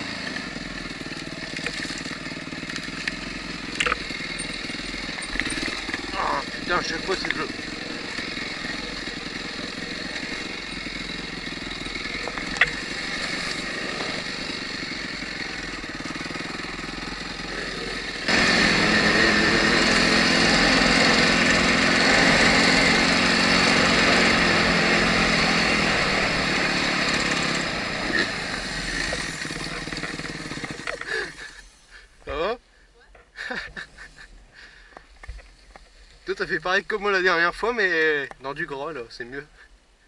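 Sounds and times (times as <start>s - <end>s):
dirt bike engine running: 0.0s - 32.6s.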